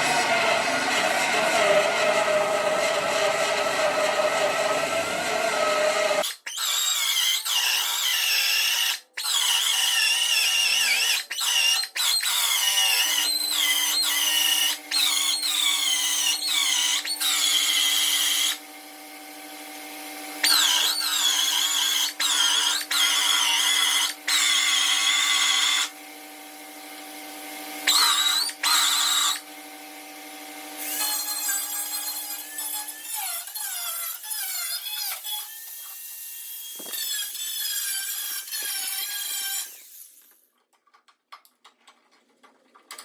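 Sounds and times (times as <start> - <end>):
power tool cutting sheet metal: 0.0 - 40.4.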